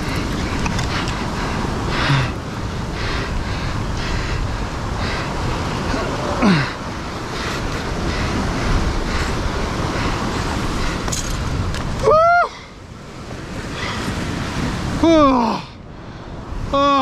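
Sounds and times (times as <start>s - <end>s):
ocean swell washing over rocks: 0.0s - 17.0s
wind buffeting microphone: 0.0s - 17.0s.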